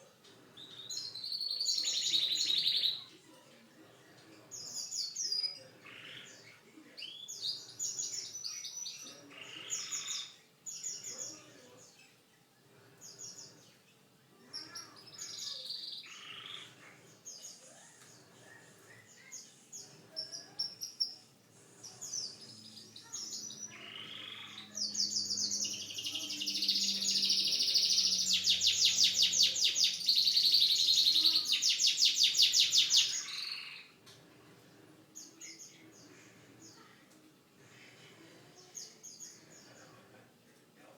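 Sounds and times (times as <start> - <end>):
canary singing and trilling: 0.5 - 12.3, 13.0 - 34.2, 35.1 - 37.0.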